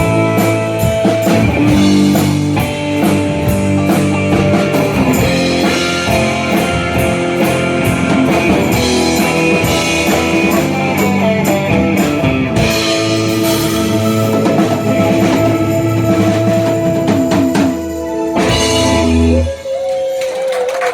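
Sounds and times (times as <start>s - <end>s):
guitar sustained notes: 0.0s - 20.2s
live rock band playing: 0.0s - 20.9s.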